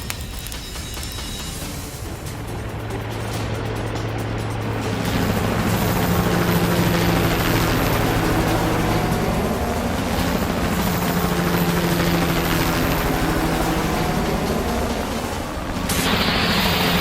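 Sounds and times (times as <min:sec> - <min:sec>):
helicopter engine hum: 0:00.0 - 0:17.0
helicopter rotor chop: 0:00.0 - 0:17.0.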